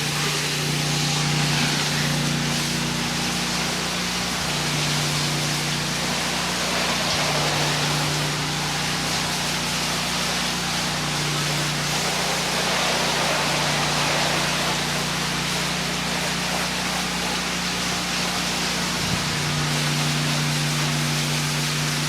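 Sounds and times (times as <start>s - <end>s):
high-pressure water spray hissing: 0.0s - 22.0s
pressure washer engine humming: 0.0s - 22.0s.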